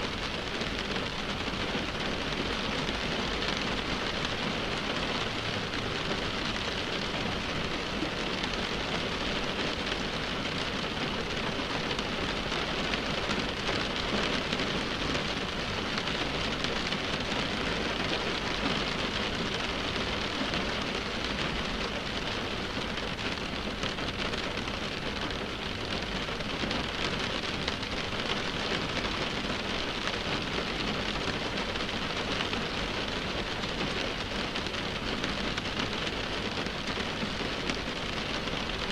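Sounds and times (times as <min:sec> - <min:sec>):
rain on car windshield: 0:00.0 - 0:38.9.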